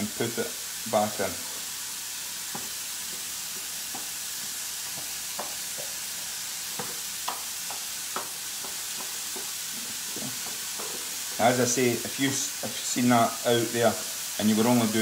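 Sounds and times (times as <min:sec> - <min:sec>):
mushrooms sizzling in pan: 0:00.0 - 0:15.0.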